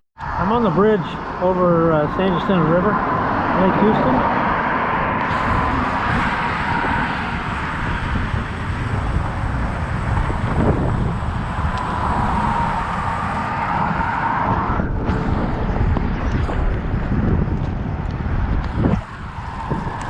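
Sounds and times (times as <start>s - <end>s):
road traffic passing: 0.2s - 20.0s
wind on microphone: 0.2s - 20.0s.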